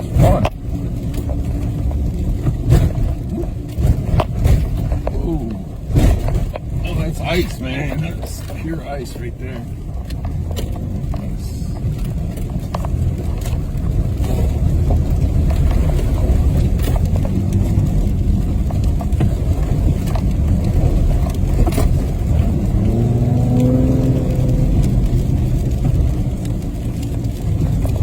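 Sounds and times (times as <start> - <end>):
truck engine and tyre rumble: 0.0 - 28.0.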